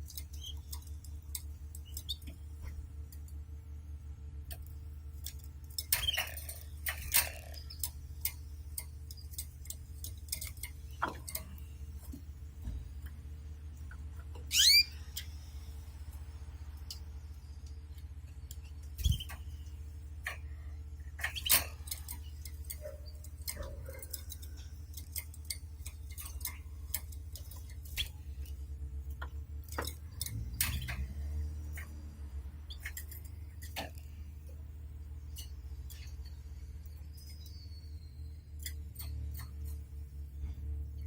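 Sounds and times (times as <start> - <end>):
light clicks and taps in cage: 0.0 - 37.8, 38.4 - 41.0
steady low hum: 0.0 - 41.0.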